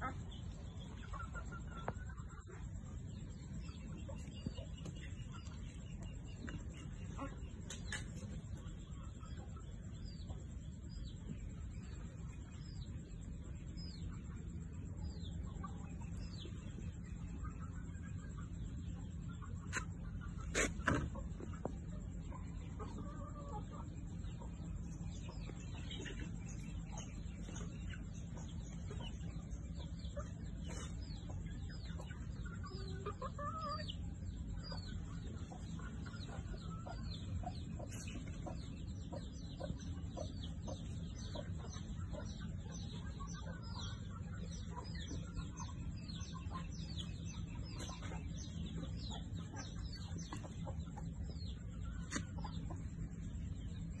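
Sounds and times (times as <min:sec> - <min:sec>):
birds chirping: 0:00.0 - 0:54.0
low background hum: 0:00.0 - 0:54.0.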